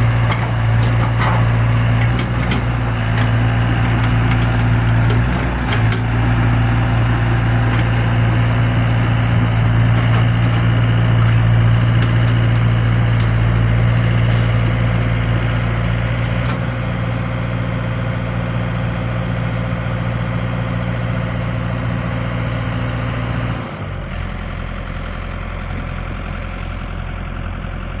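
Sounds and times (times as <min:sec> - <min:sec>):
diesel engine humming: 0:00.0 - 0:28.0.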